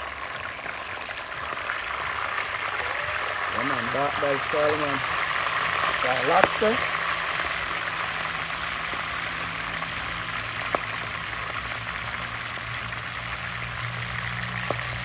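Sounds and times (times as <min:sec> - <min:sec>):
deep-frying sizzle: 0:00.0 - 0:15.0
oil popping: 0:00.0 - 0:15.0.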